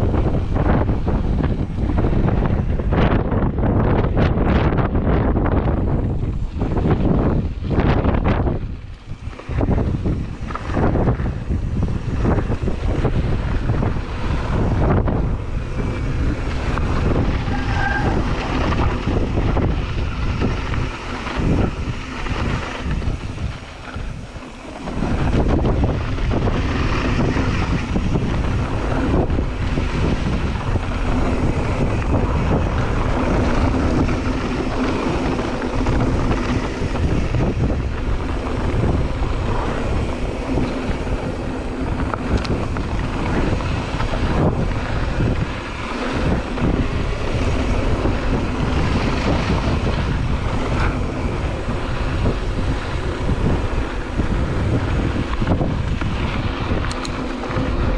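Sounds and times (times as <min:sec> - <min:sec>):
mountain bike on dirt trail: 0:00.0 - 0:57.9
wind on microphone: 0:00.0 - 0:57.9.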